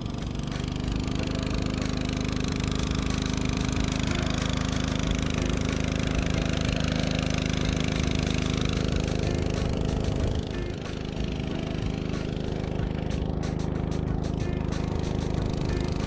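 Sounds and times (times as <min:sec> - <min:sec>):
small boat motor humming: 0:00.0 - 0:16.0.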